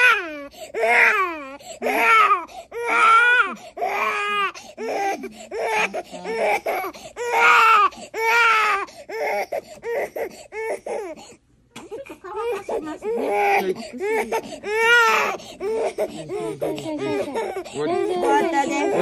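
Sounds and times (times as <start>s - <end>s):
baby crying: 0.0s - 19.0s.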